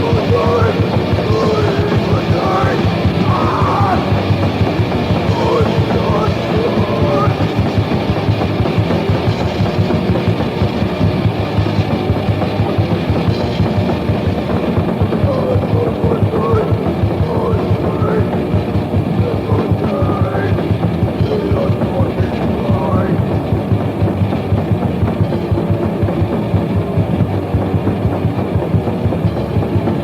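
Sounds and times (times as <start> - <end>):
distorted punk rock music: 0.0 - 30.0
fast driving drum kit: 0.0 - 30.0.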